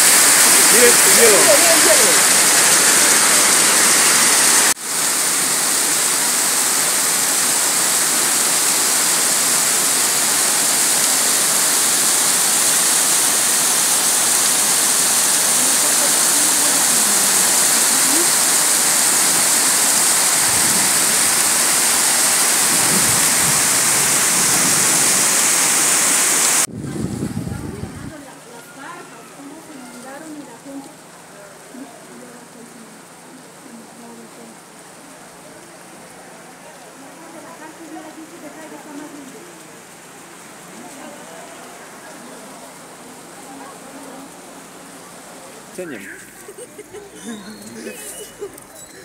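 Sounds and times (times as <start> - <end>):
heavy rain and hail: 0.0 - 49.0.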